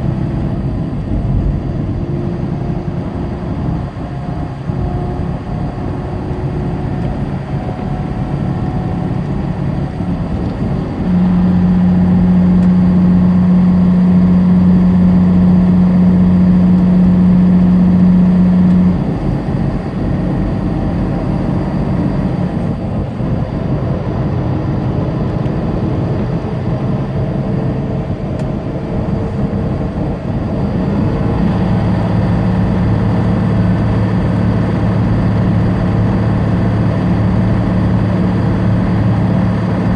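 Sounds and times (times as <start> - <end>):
road noise: 0.0 - 39.9
truck engine: 0.0 - 39.9.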